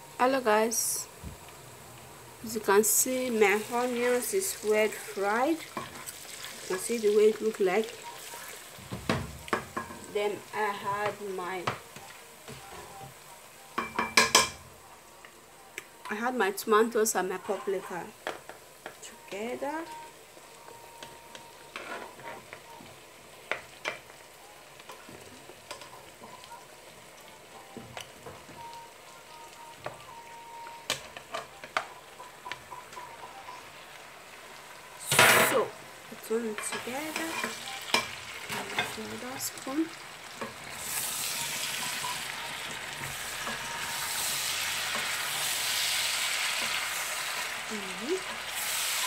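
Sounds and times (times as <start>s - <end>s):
vegetables sizzling in oil: 0.0s - 49.0s.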